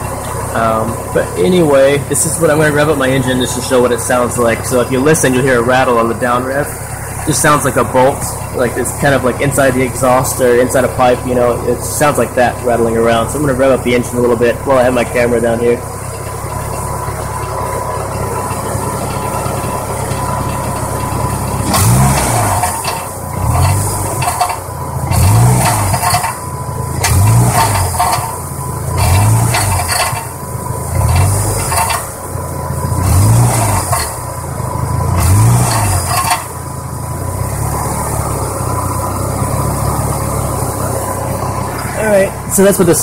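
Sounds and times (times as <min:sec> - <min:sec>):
car engine idling and revving: 0:00.0 - 0:43.0
metallic rattle from exhaust: 0:00.0 - 0:43.0.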